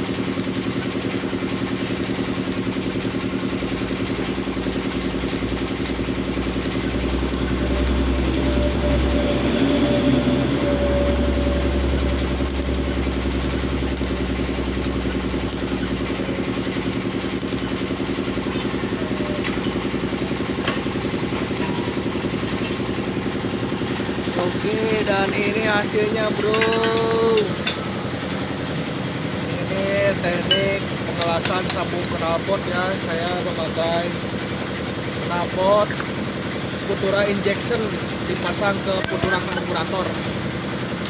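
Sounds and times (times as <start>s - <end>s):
van engine running: 0.0s - 41.0s.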